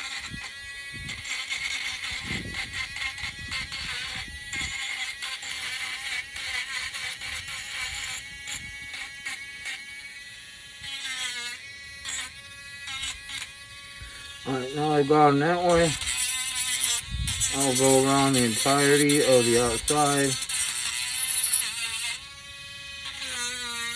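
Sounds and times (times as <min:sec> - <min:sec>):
electric sander motor hum: 0:00.0 - 0:23.9
wood rasping on abrasive: 0:00.0 - 0:23.9.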